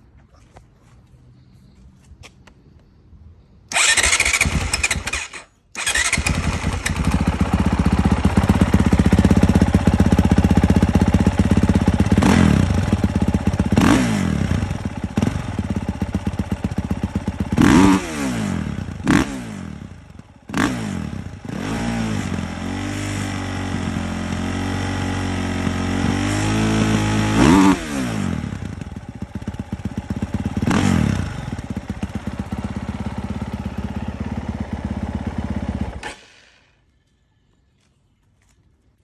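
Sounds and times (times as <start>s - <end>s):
dirt bike engine revving: 3.7s - 36.7s.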